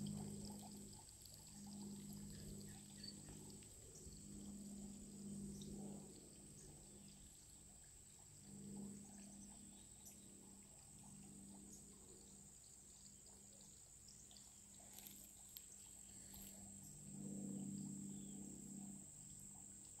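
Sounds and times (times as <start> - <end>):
high-pitched insect drone: 0.0 - 20.0
low hum: 0.0 - 20.0.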